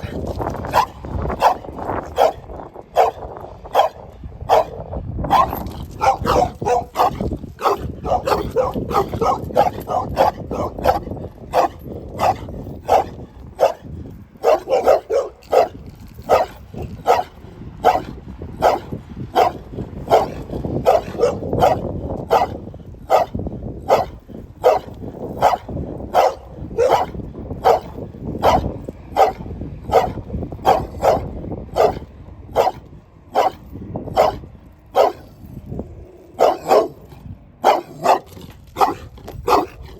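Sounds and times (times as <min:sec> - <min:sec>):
dog barking: 0:00.7 - 0:32.8, 0:33.4 - 0:34.4, 0:35.0 - 0:35.3, 0:36.4 - 0:37.0, 0:37.6 - 0:39.8.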